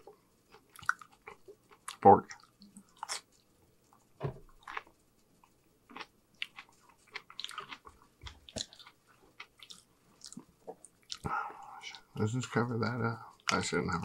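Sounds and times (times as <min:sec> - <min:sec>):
person chewing food: 0:00.0 - 0:12.1.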